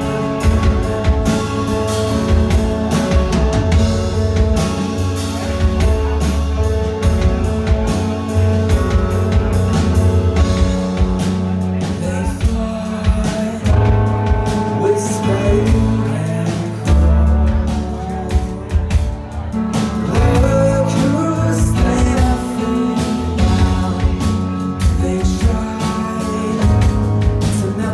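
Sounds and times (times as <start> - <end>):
drum kit beat: 0.0 - 27.9
rock band playing live: 0.0 - 27.9.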